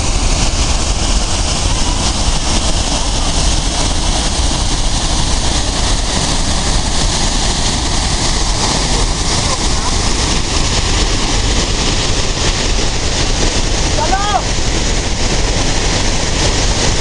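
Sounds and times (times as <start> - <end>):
deep rumble of water: 0.0 - 17.0
waterfall roaring: 0.0 - 17.0.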